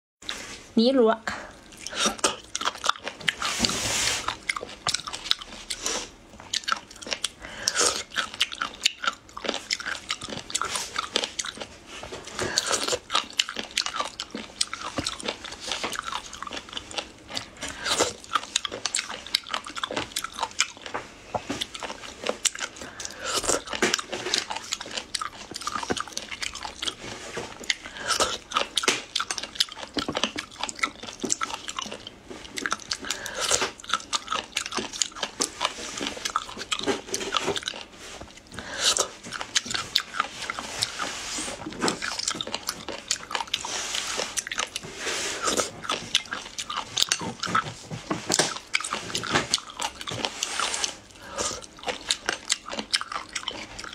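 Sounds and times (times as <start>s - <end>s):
crunchy chewing: 1.5s - 53.9s.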